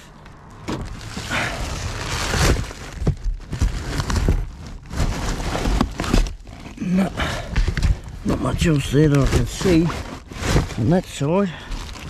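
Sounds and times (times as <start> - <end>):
rubbish rustling and scraping: 0.0 - 12.0.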